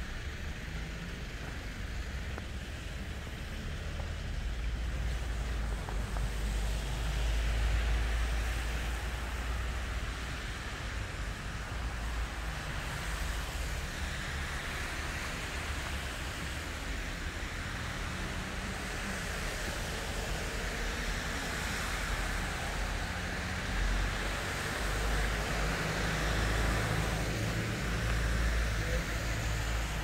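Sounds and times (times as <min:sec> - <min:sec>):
distant city traffic: 0:00.0 - 0:30.0.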